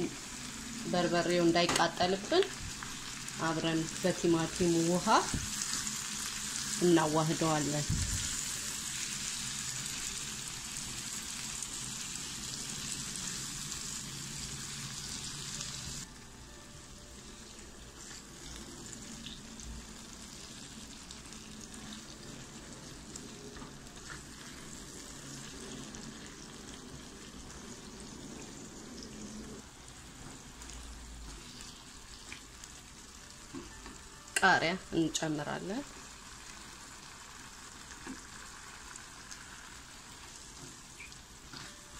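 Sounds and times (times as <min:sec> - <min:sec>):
vegetables sizzling in frying pan: 0:00.0 - 0:41.9.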